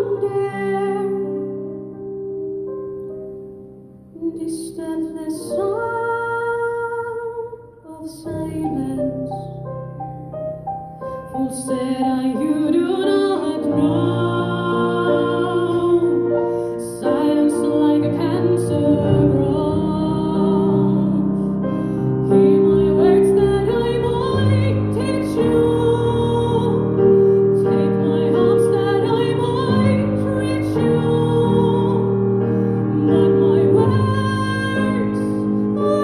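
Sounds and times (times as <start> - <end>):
woman singing: 0.0 - 1.8, 4.2 - 9.6, 11.3 - 36.0
slow piano: 0.0 - 36.0.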